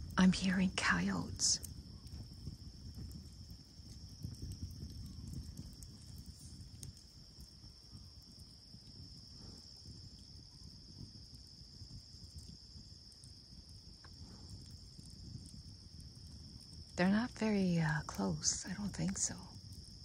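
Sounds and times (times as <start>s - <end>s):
chorus of night insects: 0.0s - 20.0s.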